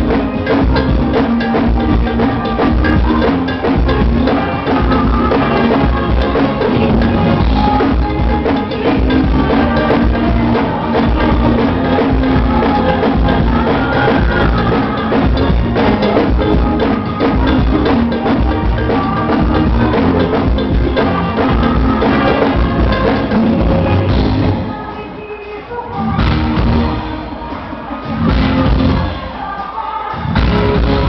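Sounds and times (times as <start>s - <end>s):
driving drum kit: 0.0s - 31.0s
live band music: 0.0s - 31.0s.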